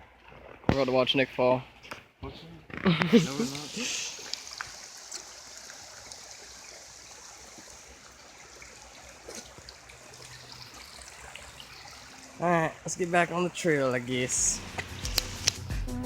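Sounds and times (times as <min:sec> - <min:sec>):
flowing creek: 0:02.7 - 0:15.6.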